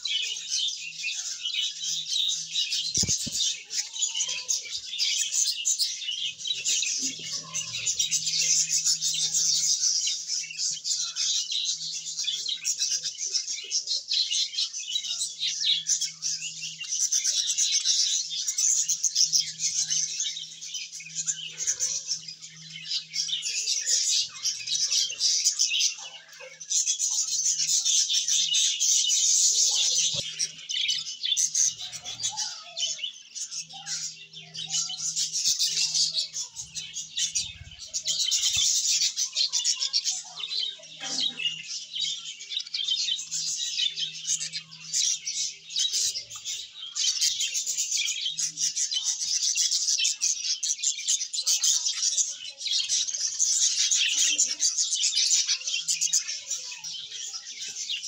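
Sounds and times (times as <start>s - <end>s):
parakeet chicks chirping: 0.0s - 58.0s.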